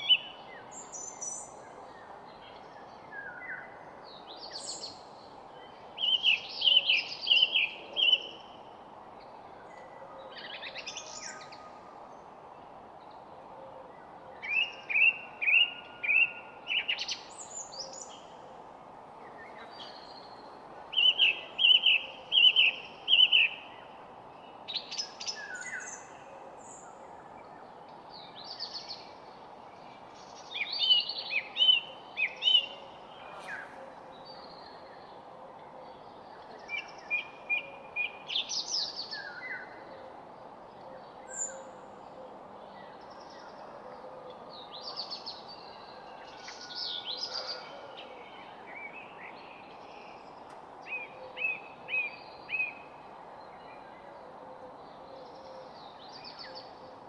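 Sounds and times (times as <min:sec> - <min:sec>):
songbirds singing and chirping: 0:00.0 - 0:57.0
steady background hiss: 0:00.0 - 0:57.0.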